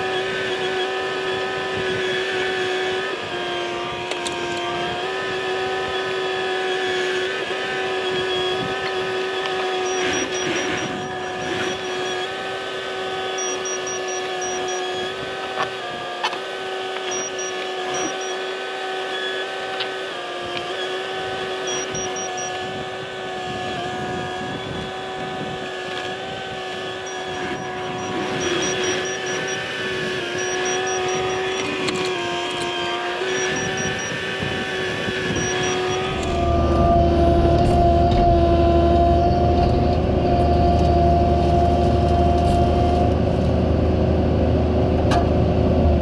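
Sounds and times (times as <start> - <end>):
hydraulic whine: 0.0 - 46.0
excavator diesel engine running: 4.2 - 18.8, 21.0 - 46.0.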